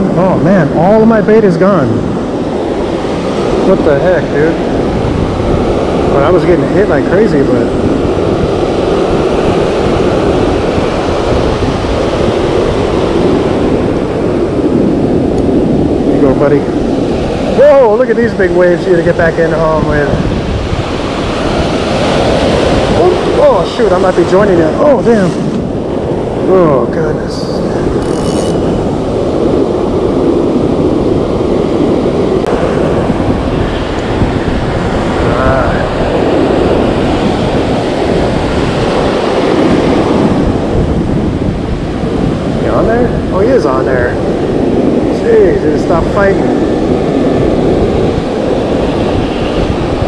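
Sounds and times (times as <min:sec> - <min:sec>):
ocean surf breaking: 0:00.0 - 0:50.0
wind buffeting microphone: 0:00.0 - 0:50.0.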